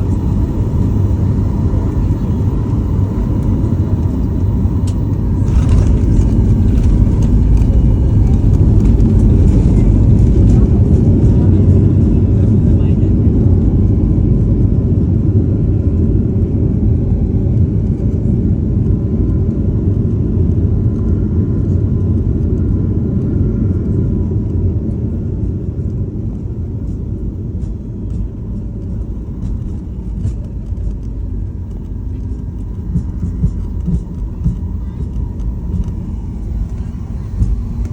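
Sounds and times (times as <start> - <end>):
airliner landing rumble: 0.0 - 37.9
faint steady whine: 0.0 - 37.9.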